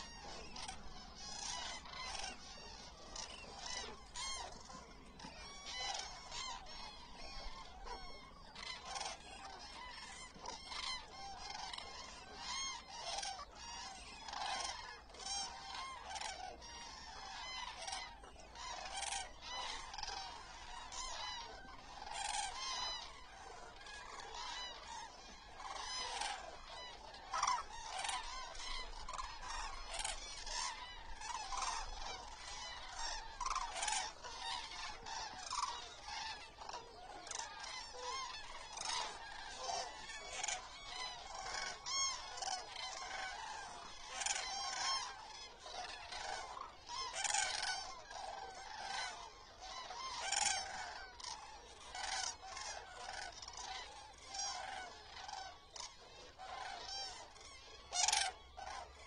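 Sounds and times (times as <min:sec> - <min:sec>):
cranes trumpeting calls: 0:00.0 - 0:59.0.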